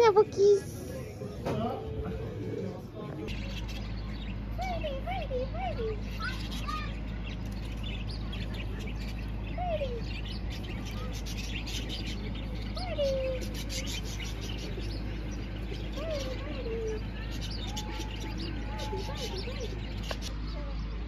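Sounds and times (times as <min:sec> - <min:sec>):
budgerigars chattering: 0:03.2 - 0:20.6.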